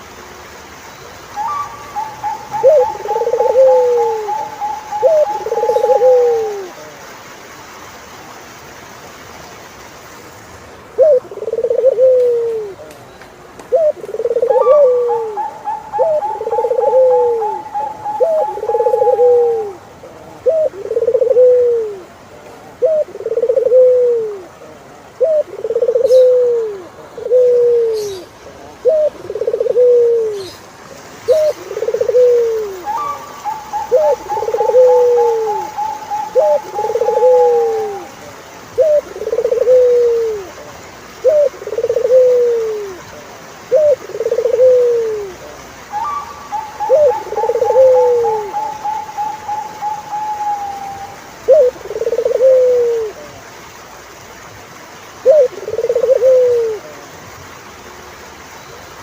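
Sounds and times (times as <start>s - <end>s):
dove cooing: 1.4s - 7.0s, 11.0s - 12.9s, 13.7s - 30.6s, 31.2s - 53.3s, 55.2s - 57.1s.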